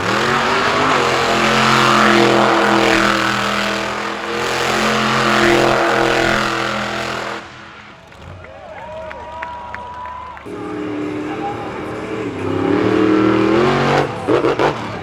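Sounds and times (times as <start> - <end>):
monster truck engine revving high: 0.0 - 9.3, 10.4 - 15.0.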